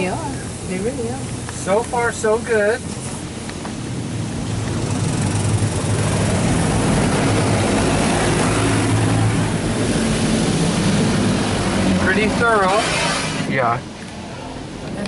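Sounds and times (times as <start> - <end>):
car wash water spraying: 0.0 - 14.8.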